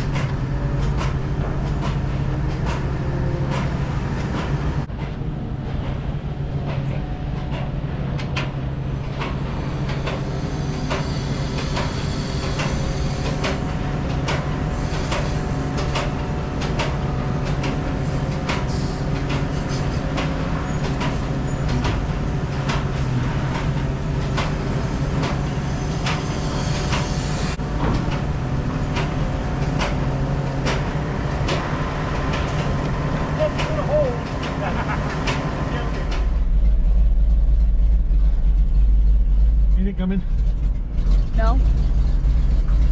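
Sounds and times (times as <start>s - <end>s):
truck engine droning: 0.0s - 42.9s.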